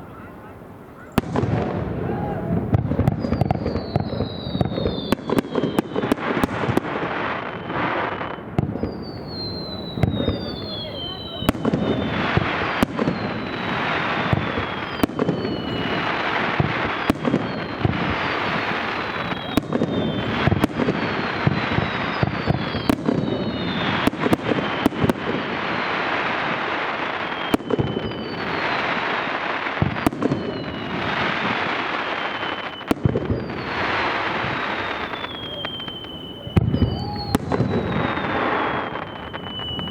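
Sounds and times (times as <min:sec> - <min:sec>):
firework crackling: 0:00.0 - 0:39.9
falling firework whistles: 0:01.1 - 0:39.9.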